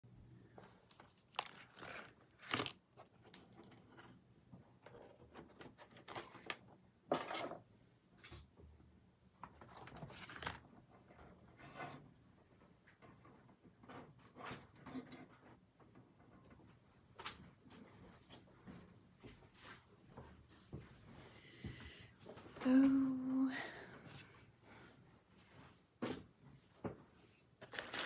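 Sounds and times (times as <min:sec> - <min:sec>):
rustling and shuffling: 0:00.4 - 0:28.0.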